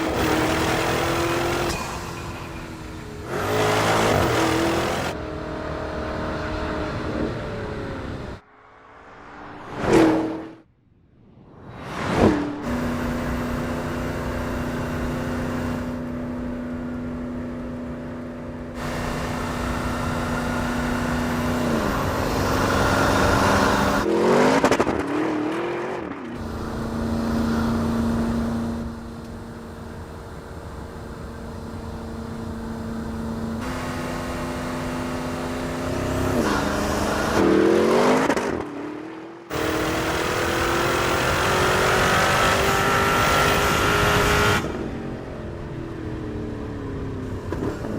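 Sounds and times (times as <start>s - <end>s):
car engine idling and revving: 0.0s - 10.7s, 11.8s - 47.9s.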